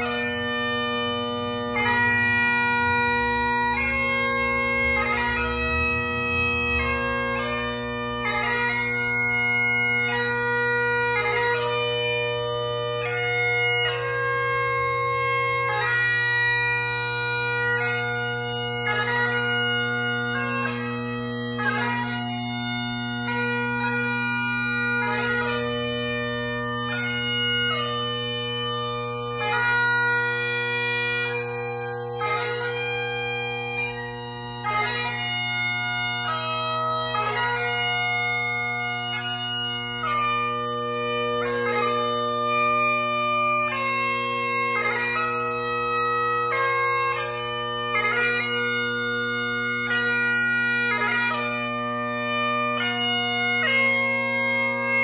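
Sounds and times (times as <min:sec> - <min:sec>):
bagpipe playing: 0:00.0 - 0:55.0.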